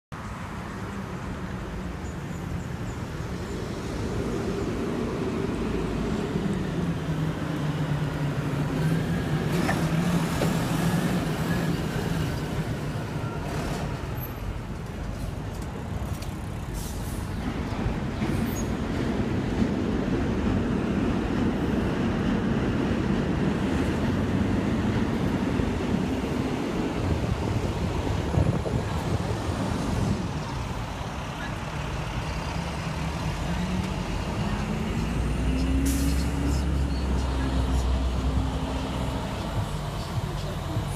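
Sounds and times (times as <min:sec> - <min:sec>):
hiss of passing cars: 0:00.2 - 0:19.4, 0:20.5 - 0:40.9
fire engine diesel engine: 0:00.4 - 0:40.9.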